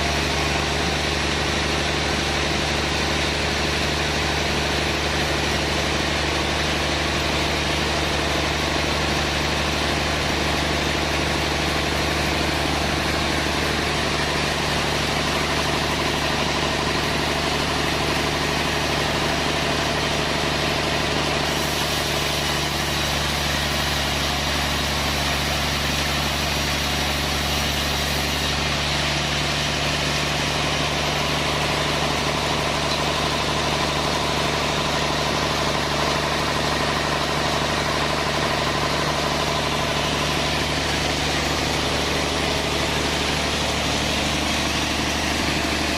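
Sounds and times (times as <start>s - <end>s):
sawmill machinery humming: 0.0s - 45.9s.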